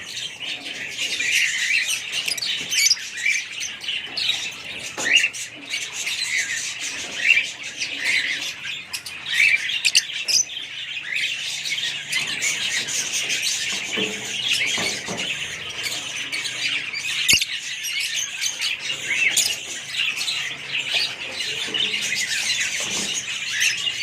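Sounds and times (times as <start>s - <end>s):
lovebirds chirping and squawking: 0.0s - 24.0s.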